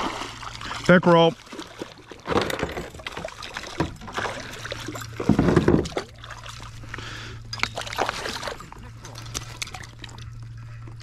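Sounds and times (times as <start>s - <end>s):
fish splashing at water surface: 0.0s - 10.5s
water sloshing and dripping: 0.0s - 11.0s.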